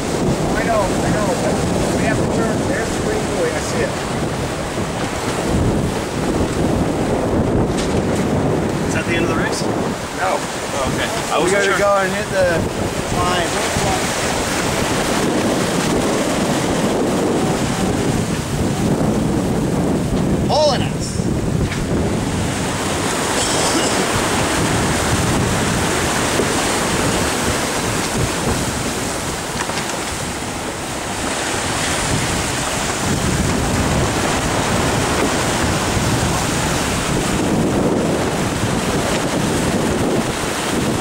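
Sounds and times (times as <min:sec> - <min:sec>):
water rushing past a hull: 0:00.0 - 0:41.0
wind buffeting the microphone: 0:00.0 - 0:41.0.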